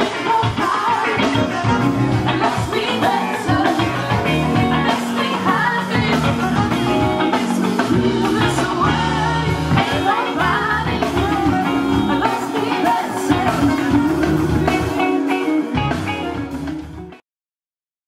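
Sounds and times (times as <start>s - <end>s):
person singing: 0.0s - 16.0s
electric guitars: 0.0s - 17.2s
live band playing: 0.0s - 17.2s.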